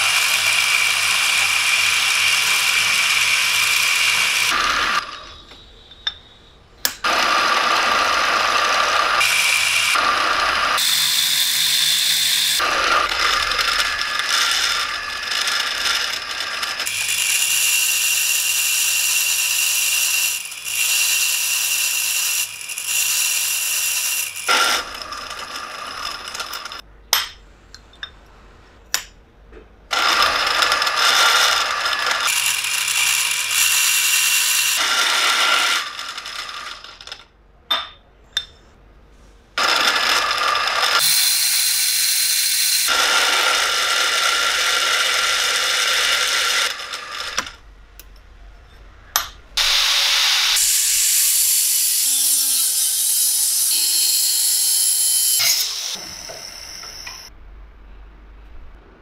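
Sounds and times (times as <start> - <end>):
power tool running: 0.0 - 5.3, 7.0 - 26.8, 29.9 - 37.2, 39.6 - 47.6, 49.6 - 57.3.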